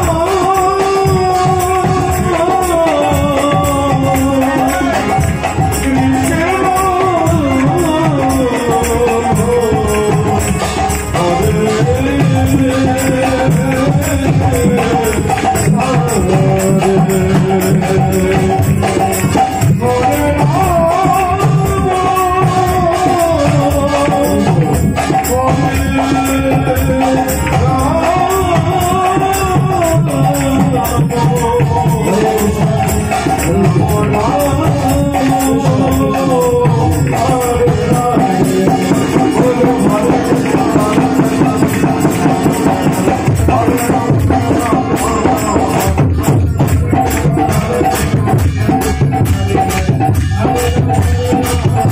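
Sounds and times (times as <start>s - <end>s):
hand drums: 0.0s - 51.9s
harmonium: 0.0s - 51.9s
man singing into a microphone: 0.0s - 51.9s.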